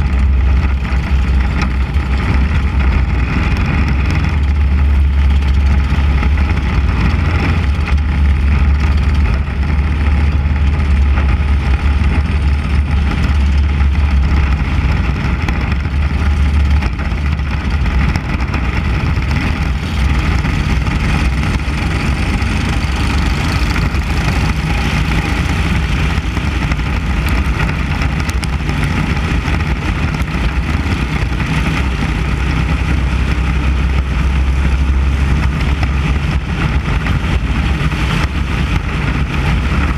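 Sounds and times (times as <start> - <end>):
race car engine rumble: 0.0 - 39.9.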